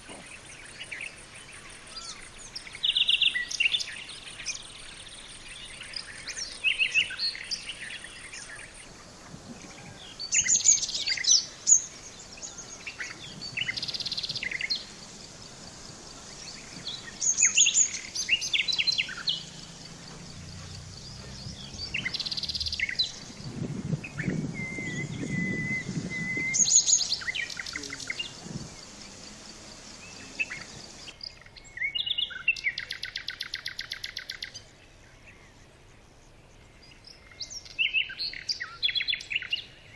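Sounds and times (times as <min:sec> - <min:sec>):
wild birds chirping and singing: 0:00.0 - 0:39.9.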